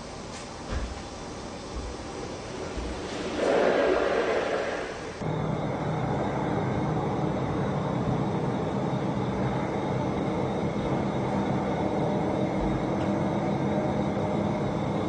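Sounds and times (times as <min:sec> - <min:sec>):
low rumbling hum: 0:00.0 - 0:15.0
faint pitched drone: 0:01.4 - 0:15.0.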